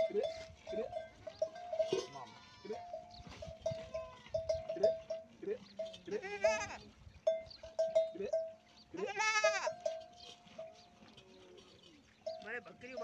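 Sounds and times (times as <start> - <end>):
metal bell clinking: 0.0 - 6.1, 7.2 - 8.6, 9.6 - 13.0
camel bleating: 0.0 - 6.9, 8.0 - 13.0.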